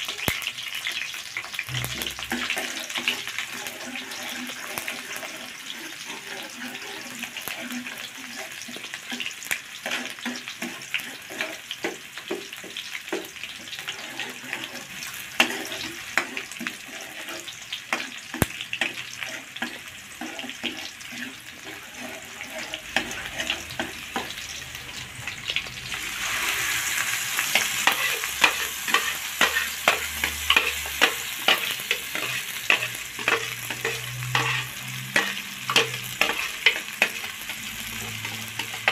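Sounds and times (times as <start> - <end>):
shallots sizzling in hot oil: 0.0 - 38.9
metal spatula scraping a wok: 0.9 - 38.9.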